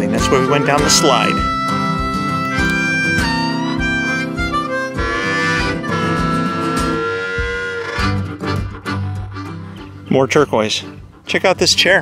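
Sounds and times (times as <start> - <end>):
harmonica long notes: 0.0 - 11.2
guitar: 0.0 - 12.0.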